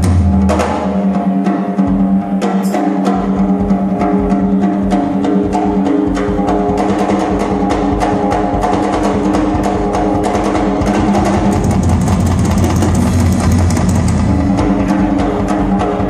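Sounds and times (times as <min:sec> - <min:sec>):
drum and cymbal hits: 0:00.0 - 0:16.0.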